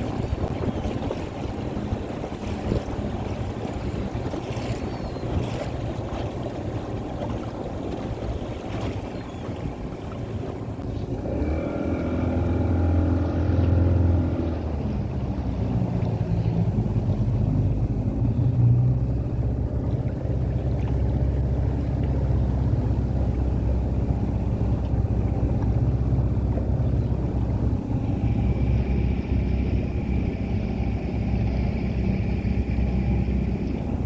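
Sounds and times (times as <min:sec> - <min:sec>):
boat motor low rumble: 0:00.0 - 0:34.0.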